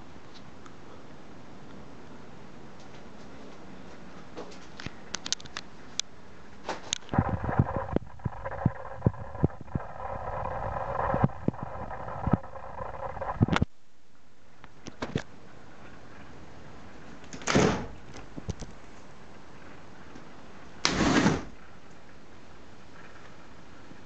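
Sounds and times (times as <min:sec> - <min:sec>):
mid-pitched hum: 0:00.0 - 0:24.0.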